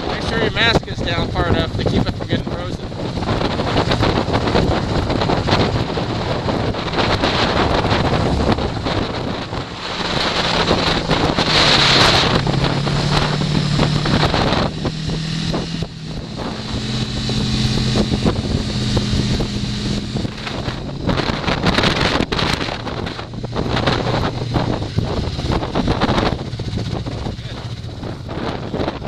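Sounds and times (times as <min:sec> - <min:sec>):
snowmobile engine running: 0:00.0 - 0:29.0
wind buffeting microphone: 0:00.0 - 0:29.0.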